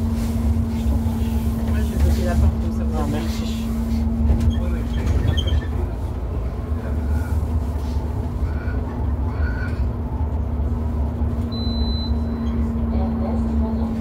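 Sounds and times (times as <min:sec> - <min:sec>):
bus engine and road rumble: 0:00.0 - 0:14.0
constant hum: 0:00.0 - 0:14.0.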